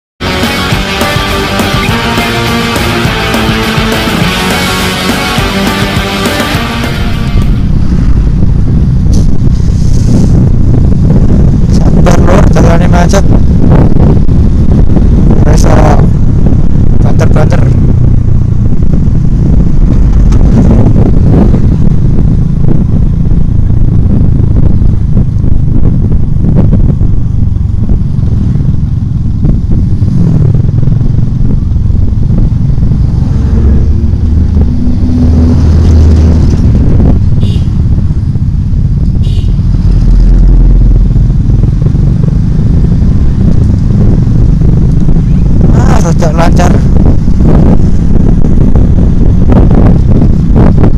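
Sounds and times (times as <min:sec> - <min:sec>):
motorcycle engine: 0:00.2 - 0:50.9
road noise: 0:00.2 - 0:50.9
wind rush on microphone: 0:05.0 - 0:50.9.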